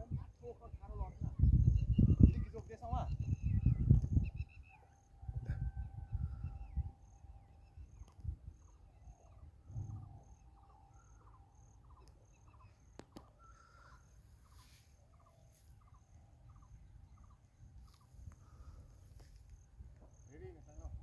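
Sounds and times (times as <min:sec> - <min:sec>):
high insect chirp: 0:00.0 - 0:21.0.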